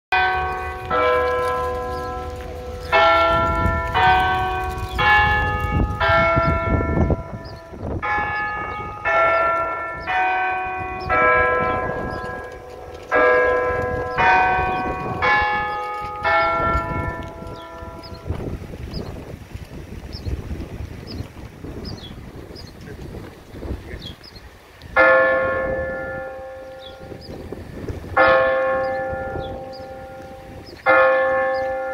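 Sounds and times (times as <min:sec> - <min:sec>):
church bells over loudspeakers: 0:00.1 - 0:18.8, 0:24.9 - 0:31.9
wind rumble on microphone: 0:00.1 - 0:31.9.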